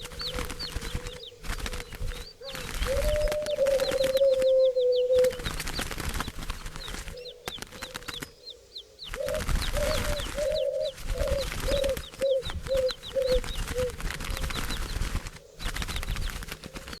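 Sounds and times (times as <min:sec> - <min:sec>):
short low bird calls: 0:00.0 - 0:05.6, 0:06.8 - 0:16.2
high chirps of small birds: 0:00.0 - 0:17.0
wing flapping: 0:00.0 - 0:17.0.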